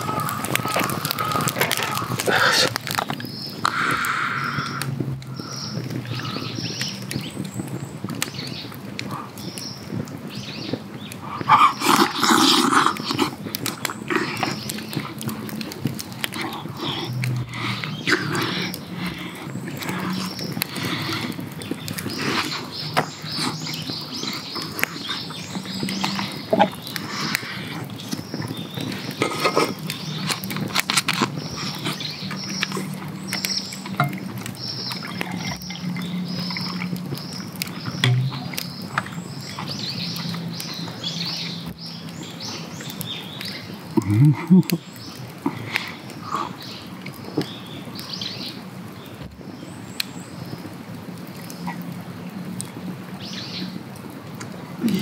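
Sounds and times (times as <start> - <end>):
birds chirping: 0.0 - 55.0
small crackles and clicks: 0.0 - 55.0.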